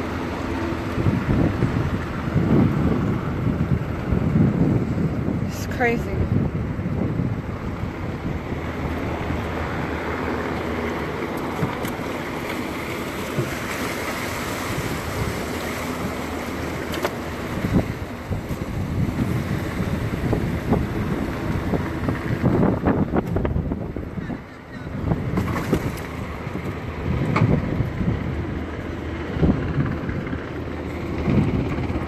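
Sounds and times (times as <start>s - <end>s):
water rushing along boat hull: 0.0s - 32.0s
wind buffeting microphone: 0.0s - 32.0s.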